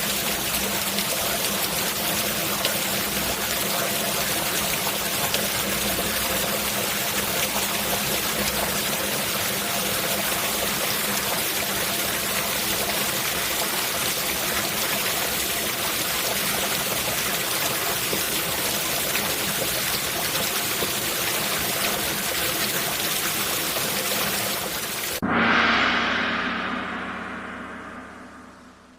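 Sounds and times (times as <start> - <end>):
steady rain falling: 0.0 - 25.2.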